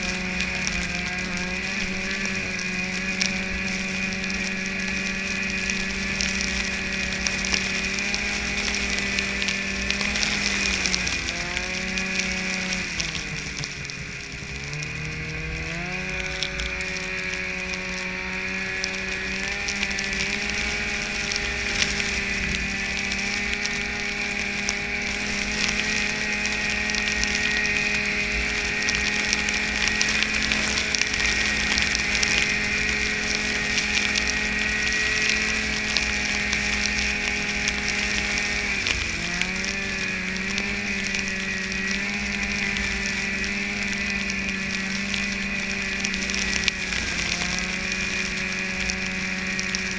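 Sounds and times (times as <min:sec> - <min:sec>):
snowmobile engine: 0:00.0 - 0:49.9.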